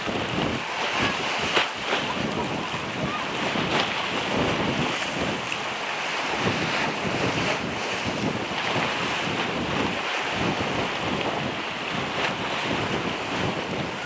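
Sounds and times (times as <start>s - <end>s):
choppy sea washing: 0.0s - 14.0s
wind buffeting microphone: 0.0s - 14.0s.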